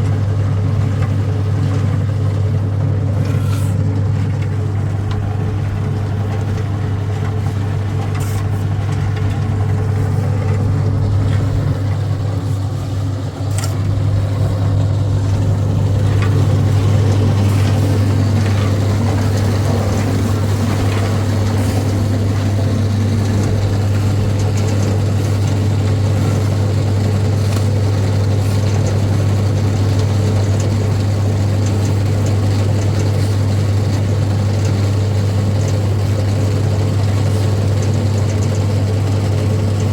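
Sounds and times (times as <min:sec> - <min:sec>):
engine droning: 0:00.0 - 0:39.9.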